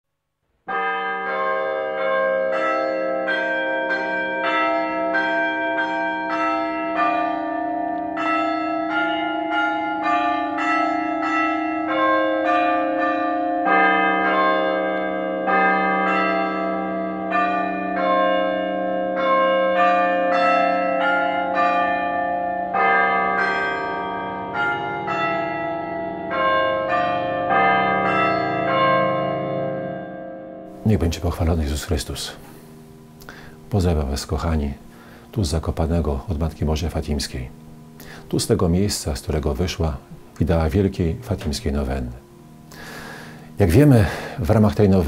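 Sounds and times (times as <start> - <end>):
church bells ringing: 0.7 - 45.0.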